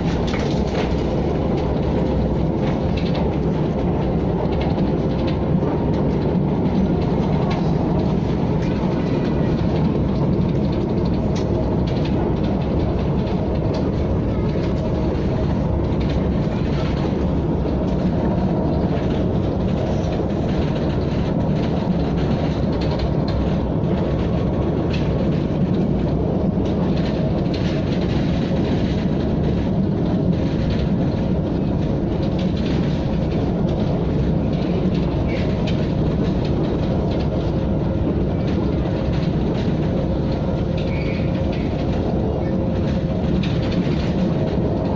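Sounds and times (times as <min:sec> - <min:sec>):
train rumbling on board: 0:00.0 - 0:44.9
wheels clicking over track: 0:00.0 - 0:44.9.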